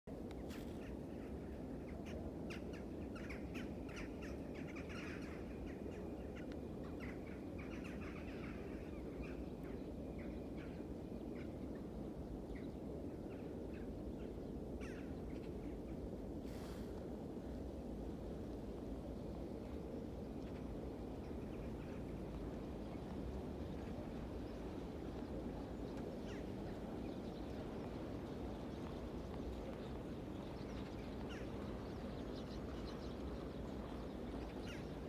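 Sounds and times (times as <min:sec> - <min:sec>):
low background rumble: 0:00.1 - 0:35.0.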